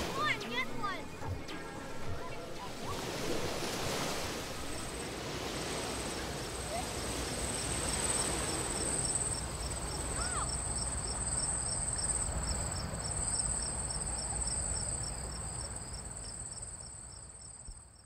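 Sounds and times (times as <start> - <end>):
insects trilling and chirping: 2.2 - 18.0.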